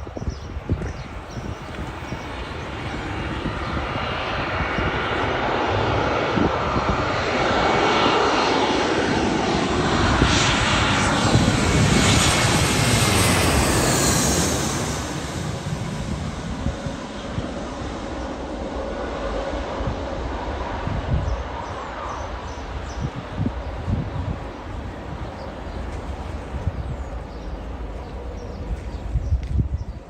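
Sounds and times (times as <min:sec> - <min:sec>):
jet engines roaring overhead: 0:00.0 - 0:30.0.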